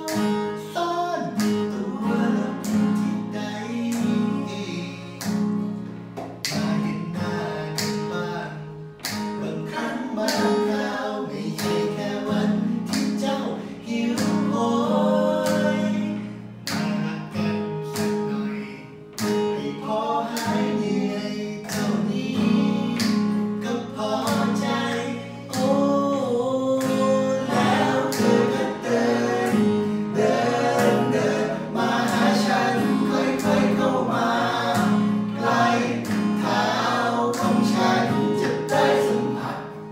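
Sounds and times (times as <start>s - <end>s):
men singing together: 0.0s - 5.5s, 6.5s - 39.9s
acoustic guitar strumming: 0.0s - 39.9s.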